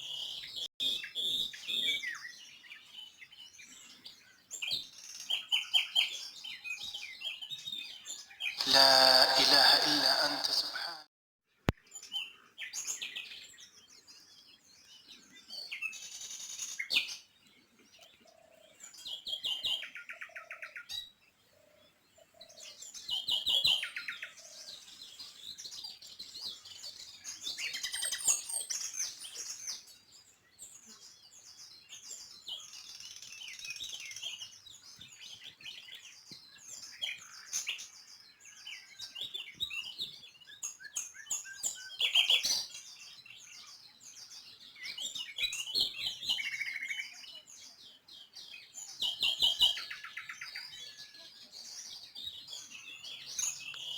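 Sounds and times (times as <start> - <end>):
small birds chirping and trilling: 0.0 - 8.6, 11.8 - 53.9.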